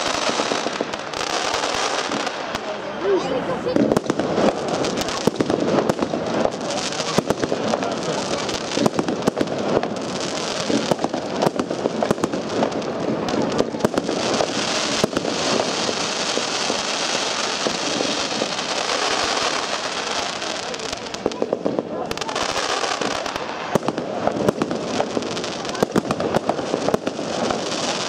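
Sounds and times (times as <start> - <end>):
firework crackling: 0.0 - 28.0
fireworks shots and bangs: 0.0 - 28.0.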